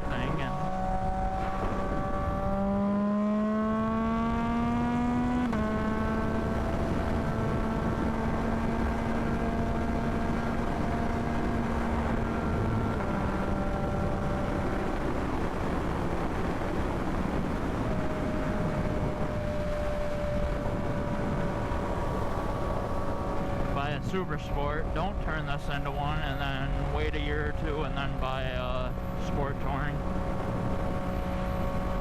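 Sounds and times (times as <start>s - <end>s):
motorcycle engine accelerating: 0.0s - 32.0s
wind and road noise: 0.0s - 32.0s.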